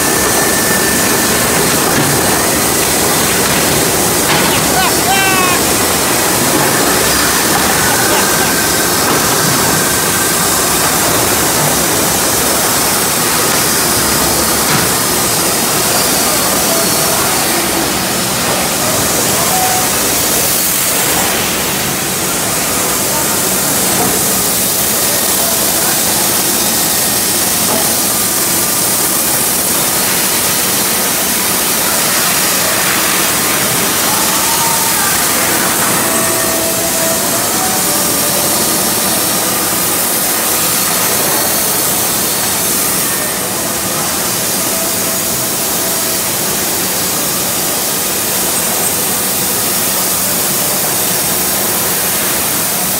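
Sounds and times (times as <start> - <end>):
sawmill machinery din: 0.0 - 52.9.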